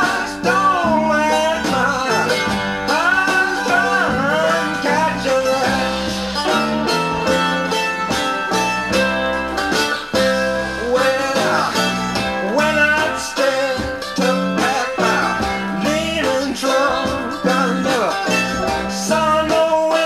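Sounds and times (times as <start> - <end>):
blues-rock guitar record: 0.0 - 20.0.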